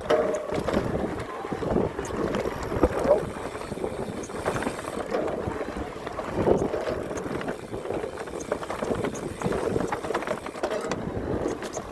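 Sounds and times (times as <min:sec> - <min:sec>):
bike clicks and rattles: 0:00.0 - 0:11.9
wind rushing on microphone: 0:00.5 - 0:10.2, 0:10.9 - 0:11.9.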